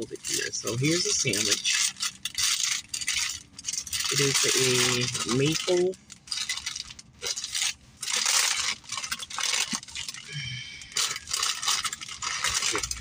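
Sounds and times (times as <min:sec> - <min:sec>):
paper wrapper crinkling: 0:00.0 - 0:13.0.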